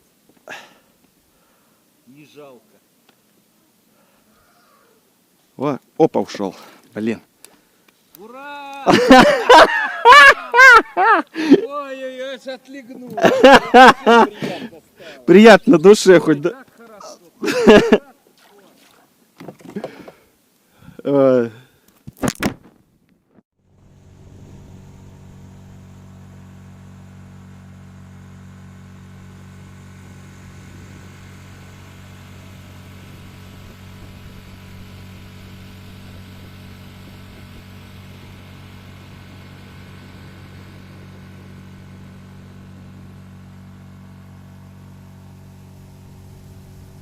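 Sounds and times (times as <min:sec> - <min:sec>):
steady low hum with hiss: 0:00.0 - 0:22.1, 0:23.7 - 0:47.0.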